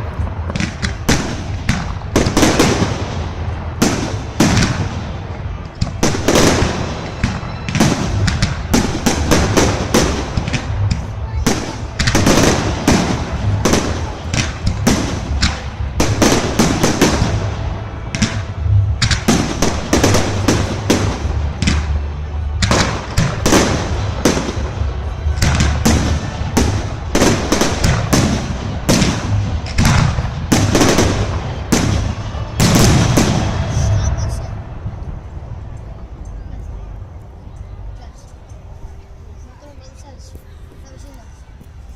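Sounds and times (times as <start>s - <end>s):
fireworks bangs and crackles: 0.0s - 37.3s
low rumble: 0.0s - 39.1s.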